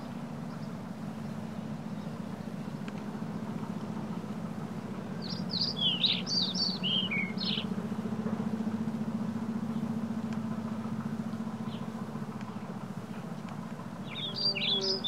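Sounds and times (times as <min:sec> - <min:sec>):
low motor hum: 0:00.0 - 0:15.0
songbird singing: 0:00.0 - 0:15.0.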